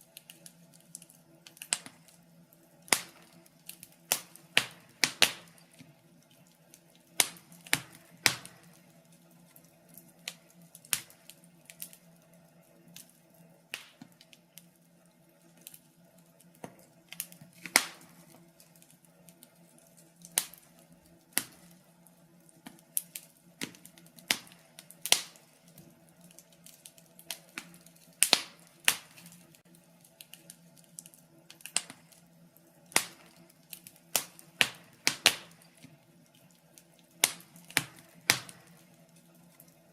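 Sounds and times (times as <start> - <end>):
wood logs crackling in fireplace: 0.0 - 39.9.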